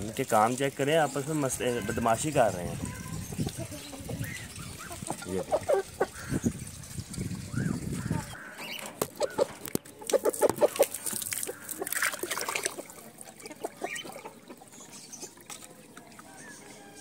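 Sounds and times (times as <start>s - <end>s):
chickens clucking: 1.5s - 17.0s.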